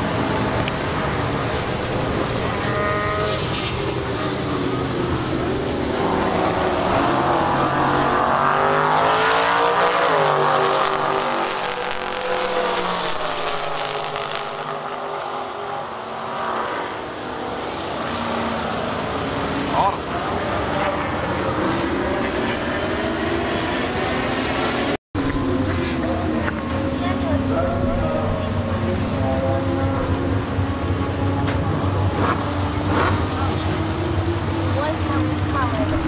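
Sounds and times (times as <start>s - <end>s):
drag car engine at full throttle: 0.0s - 36.0s.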